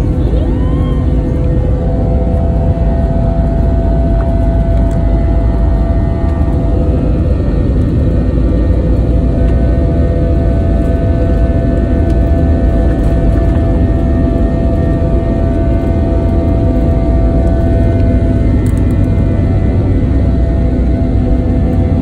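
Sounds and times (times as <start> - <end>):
jet engines rumbling and whining: 0.0 - 22.0.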